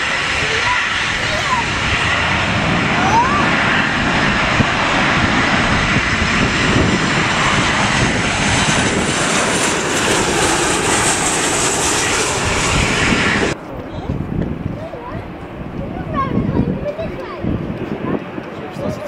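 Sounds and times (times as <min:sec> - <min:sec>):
high jet engine whine: 0:00.0 - 0:19.0
jet engines roaring: 0:00.0 - 0:19.0.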